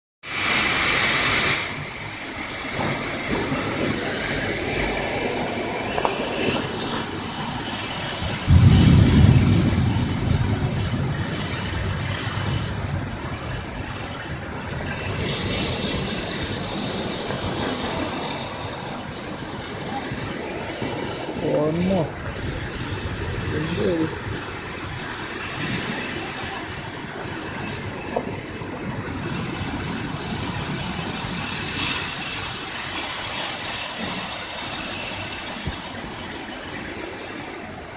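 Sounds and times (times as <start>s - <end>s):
strong wind blowing: 0.4s - 37.9s
wind gust buffeting microphone: 0.6s - 37.9s.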